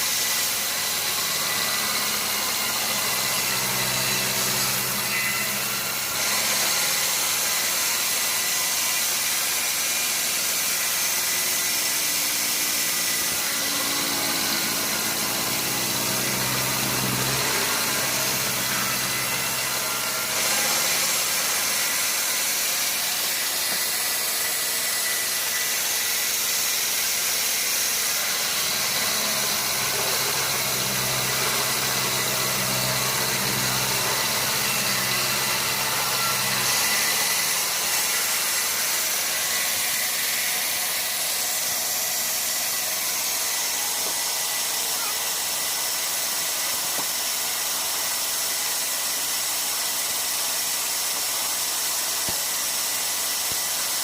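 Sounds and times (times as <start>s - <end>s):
sawmill machinery hiss: 0.0s - 54.0s.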